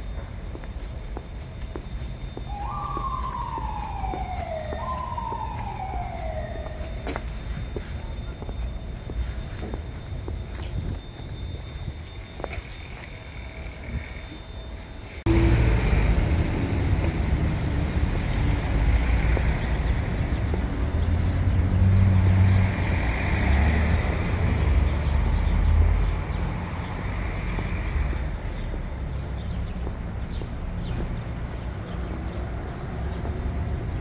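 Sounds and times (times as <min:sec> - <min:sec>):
cars and trucks passing: 0:00.0 - 0:34.0.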